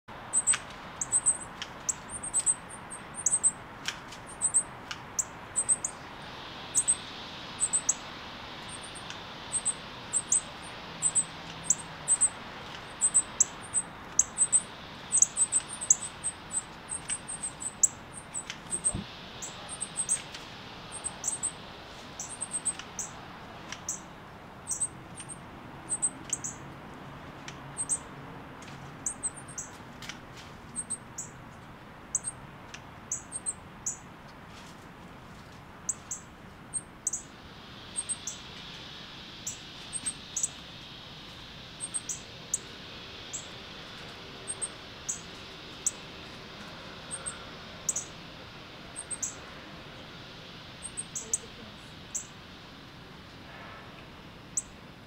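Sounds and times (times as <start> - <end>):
nestlings peeping: 0.1 - 26.8, 27.4 - 29.8, 30.6 - 34.1, 35.8 - 53.4, 54.3 - 54.8
faint steady hiss: 0.1 - 55.0.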